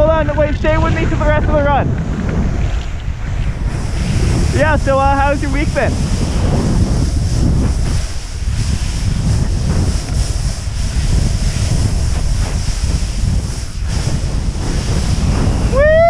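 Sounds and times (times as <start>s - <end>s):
snowboard sliding over snow: 0.0s - 16.0s
wind rushing over microphone: 0.0s - 16.0s.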